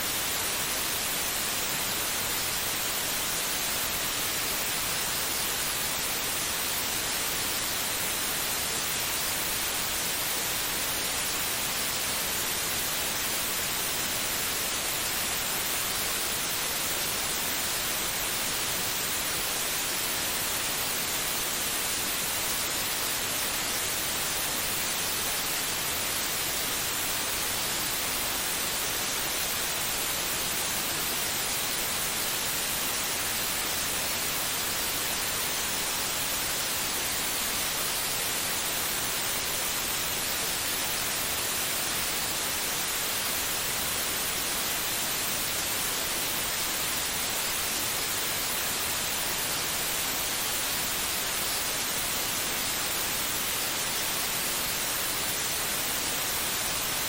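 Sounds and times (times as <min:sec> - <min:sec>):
steady white noise hiss: 0:00.0 - 0:57.0.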